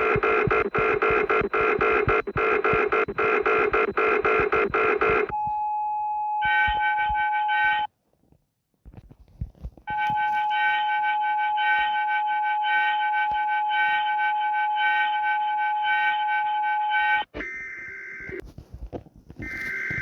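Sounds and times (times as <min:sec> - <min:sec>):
emergency alert tone: 0:00.0 - 0:07.9, 0:09.9 - 0:18.4, 0:19.4 - 0:20.0.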